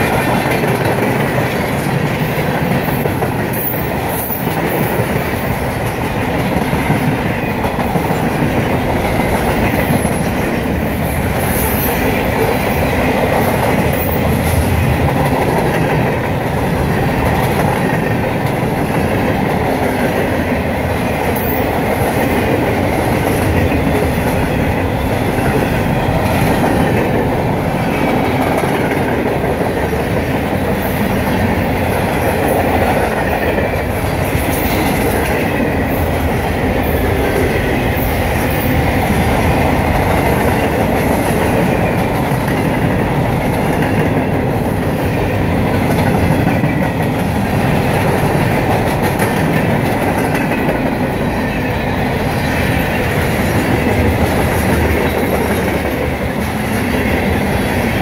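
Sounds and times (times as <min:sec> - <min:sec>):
freight train cars rolling: 0:00.0 - 0:58.0.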